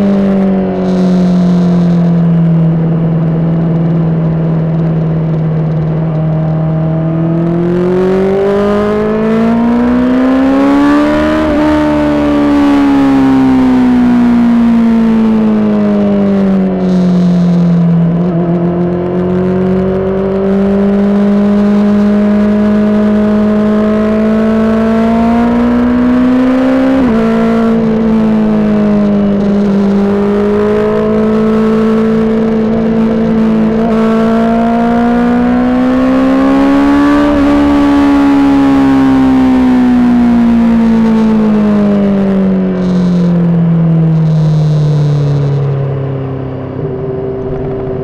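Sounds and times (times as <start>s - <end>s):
motorcycle engine under throttle: 0.0s - 48.0s.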